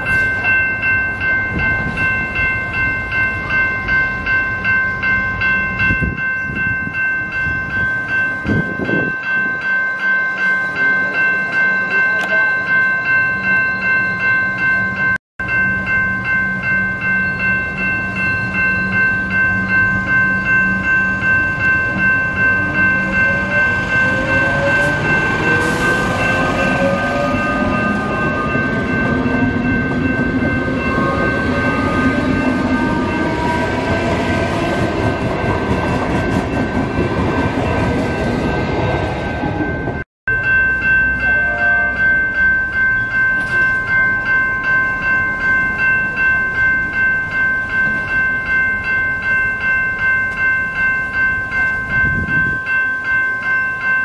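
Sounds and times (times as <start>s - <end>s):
electric train passing: 0.0s - 54.0s
level crossing warning bells: 0.0s - 54.0s.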